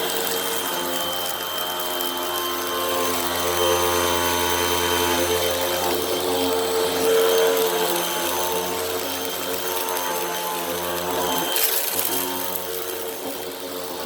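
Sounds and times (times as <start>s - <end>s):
vacuum cleaner motor whine: 0.0s - 14.0s.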